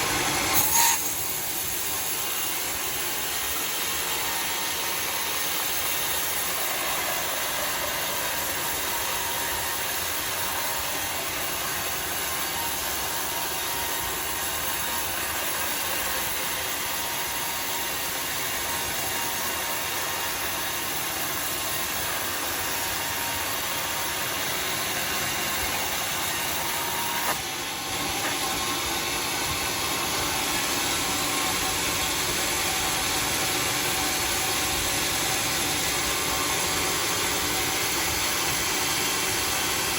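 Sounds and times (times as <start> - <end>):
sawmill hissing: 0.0 - 39.9.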